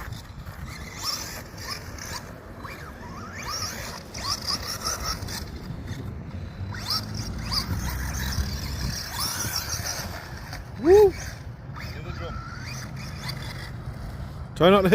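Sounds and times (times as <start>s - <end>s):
rc car motor whining: 0.0s - 14.9s.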